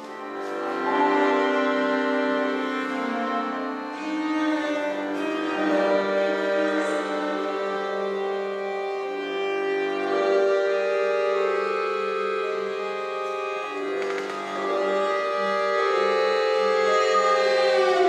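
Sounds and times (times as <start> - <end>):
instrumental music with held notes: 0.0 - 18.0.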